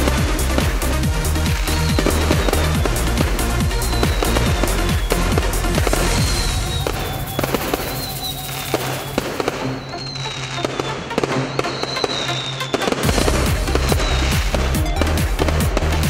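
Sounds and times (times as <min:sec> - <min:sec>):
fireworks firing and bursting: 0:00.0 - 0:16.0
music playing: 0:00.0 - 0:16.0.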